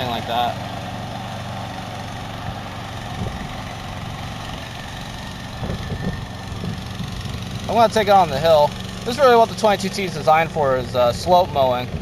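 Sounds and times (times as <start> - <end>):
mower gas engine running: 0.0 - 12.0.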